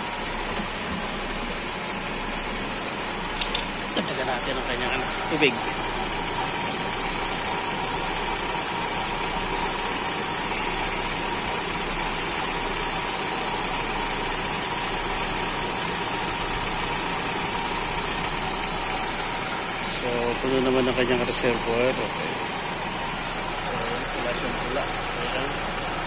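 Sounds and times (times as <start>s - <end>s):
van engine idling: 0.0s - 26.0s.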